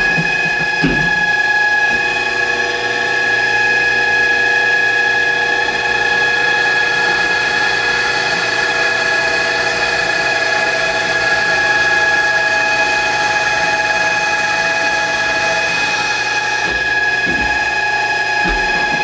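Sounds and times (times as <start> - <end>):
machine spindle whine: 0.0 - 19.0.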